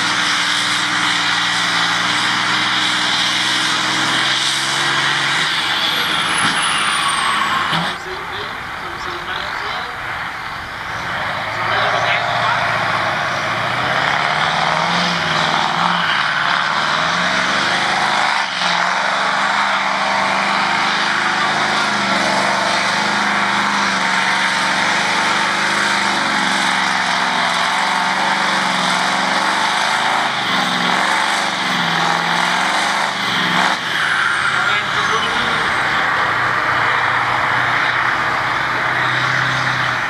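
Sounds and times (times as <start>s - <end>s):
tractor engine under heavy load: 0.0s - 40.0s.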